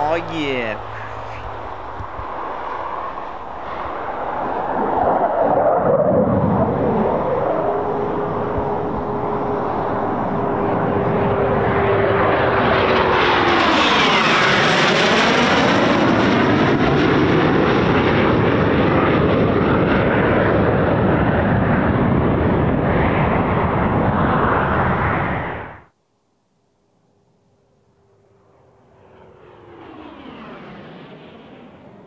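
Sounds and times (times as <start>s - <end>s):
jet fighter passing low: 0.0s - 25.9s, 27.6s - 32.0s.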